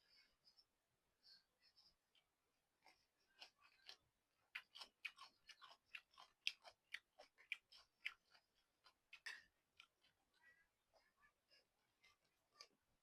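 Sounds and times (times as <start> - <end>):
chewing and mouth sounds: 2.1 - 12.8.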